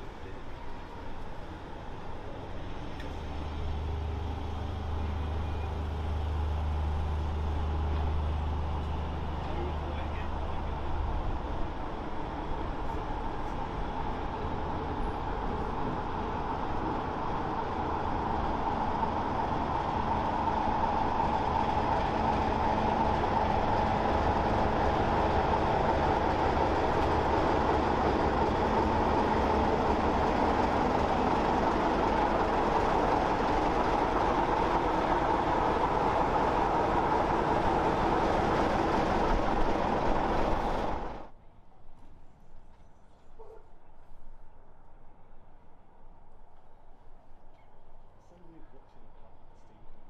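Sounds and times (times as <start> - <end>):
train coaches rolling on rails: 0.0 - 41.3
diesel locomotive passing: 0.0 - 41.4.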